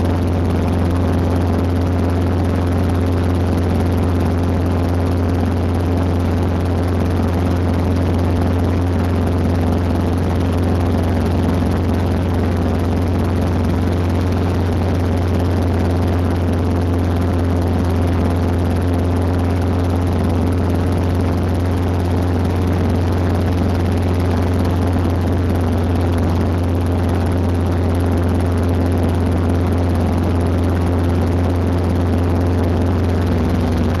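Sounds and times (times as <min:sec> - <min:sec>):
helicopter engine and rotors drone: 0:00.0 - 0:34.0.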